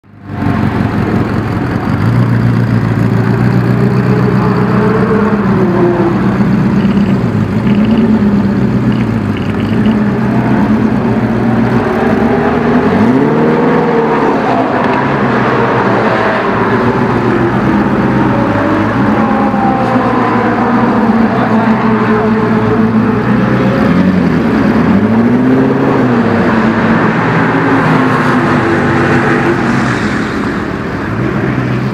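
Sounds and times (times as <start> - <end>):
sports car engine revving: 0.3 - 31.9.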